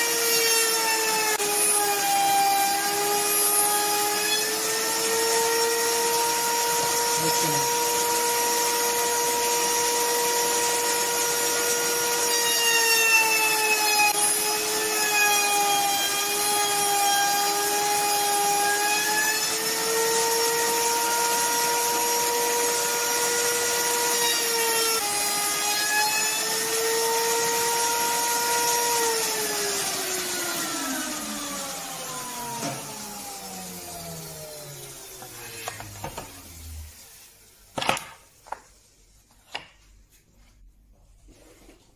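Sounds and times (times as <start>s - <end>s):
electric router cutting wood: 0.0s - 37.2s.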